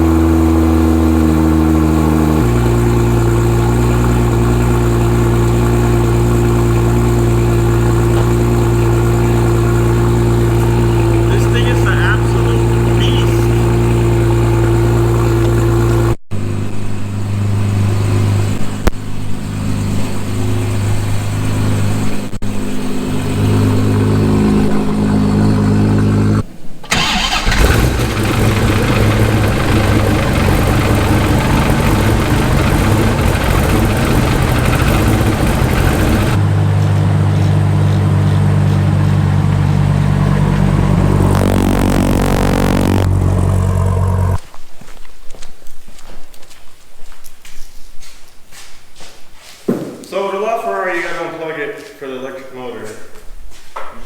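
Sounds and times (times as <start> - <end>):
sports car engines revving: 0.0 - 44.4.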